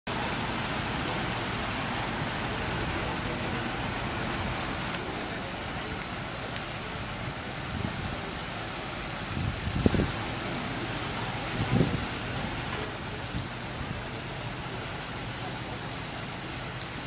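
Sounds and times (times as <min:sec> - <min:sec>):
distant crowd murmur: 0:00.1 - 0:17.0
fountain water splashing: 0:00.1 - 0:17.0.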